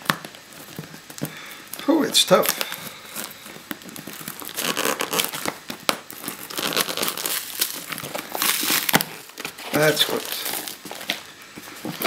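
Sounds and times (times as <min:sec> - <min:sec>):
plastic wrapping crinkling and tearing: 0:00.0 - 0:12.0.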